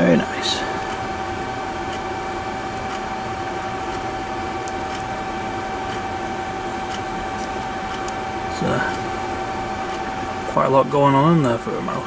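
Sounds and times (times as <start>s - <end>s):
machine hum with whine: 0.0s - 12.0s.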